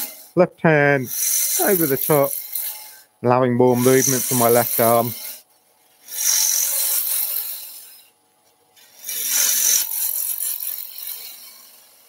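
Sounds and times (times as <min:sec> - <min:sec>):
lathe gouge cutting wood: 0:00.0 - 0:05.4, 0:06.0 - 0:08.1, 0:08.8 - 0:12.0.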